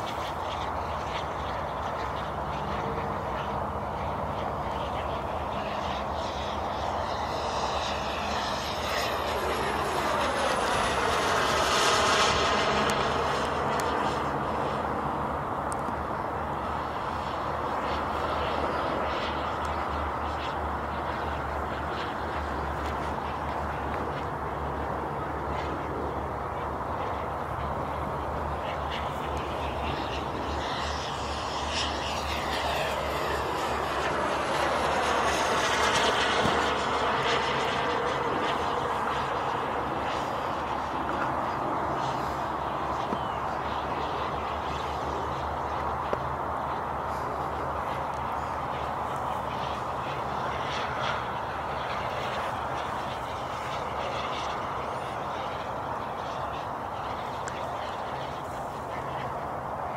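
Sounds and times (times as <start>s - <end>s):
model jet turbine whine: 0.0s - 59.9s.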